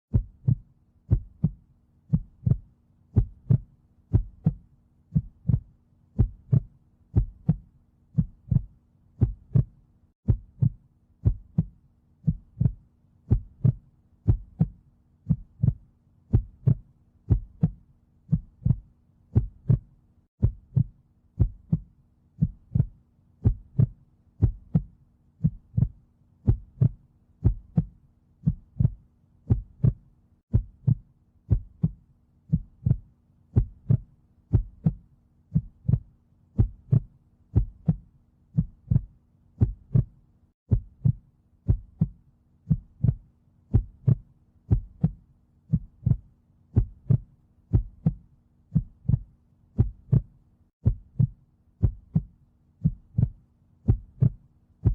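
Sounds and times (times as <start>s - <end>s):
heartbeat thumps: 0.1s - 54.9s.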